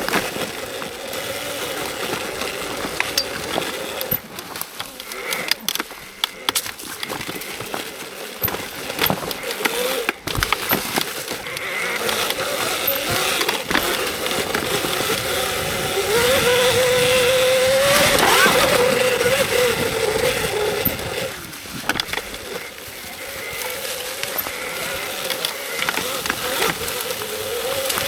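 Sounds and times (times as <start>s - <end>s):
electric motor whining: 0.0s - 28.0s
rush of riding noise: 0.0s - 28.0s.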